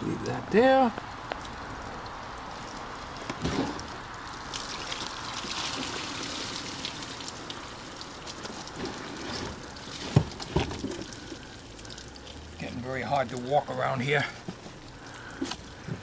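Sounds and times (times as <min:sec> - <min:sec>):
water trickling and splashing: 0:00.1 - 0:16.0.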